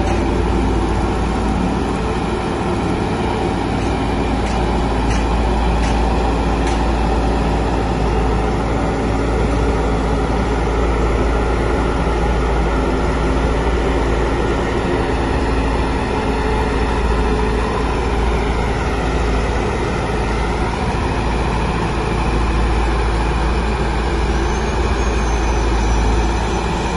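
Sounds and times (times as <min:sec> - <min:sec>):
road roller diesel engine running: 0:00.0 - 0:26.9.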